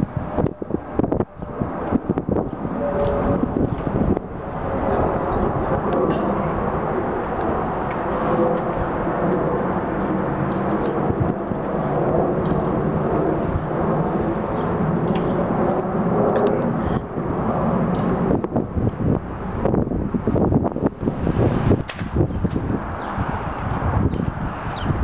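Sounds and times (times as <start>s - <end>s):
jet airliner passing overhead: 0.0s - 25.0s.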